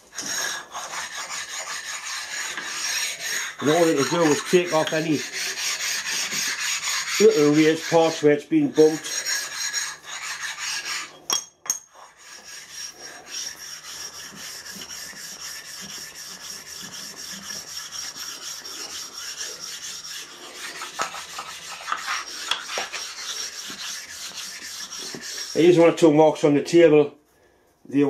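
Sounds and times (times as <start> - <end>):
sharpening stone scraping metal: 0.0 - 25.8.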